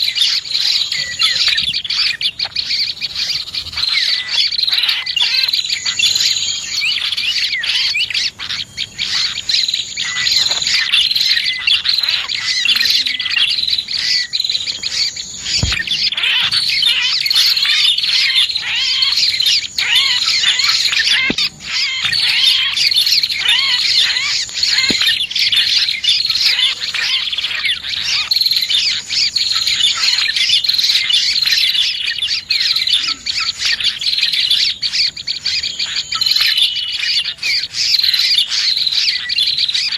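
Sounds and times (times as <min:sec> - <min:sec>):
bird calls with rapid trills: 0:00.0 - 0:39.9
small birds chirping and twittering: 0:00.0 - 0:39.9.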